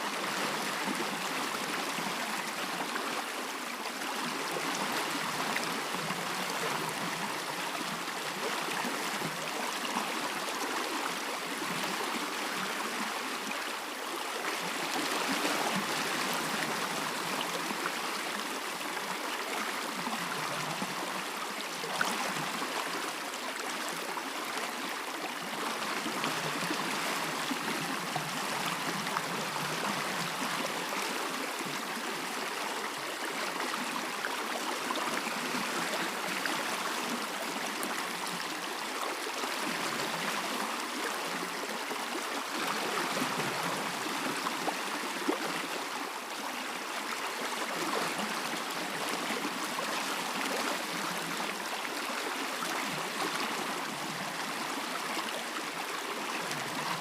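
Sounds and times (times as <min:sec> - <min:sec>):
running water stream: 0:00.0 - 0:57.0.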